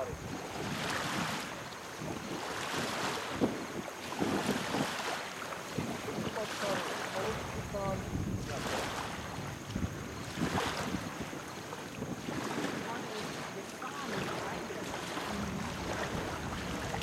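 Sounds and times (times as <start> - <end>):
small waves lapping: 0.0 - 17.0
wind buffeting microphone: 0.0 - 17.0.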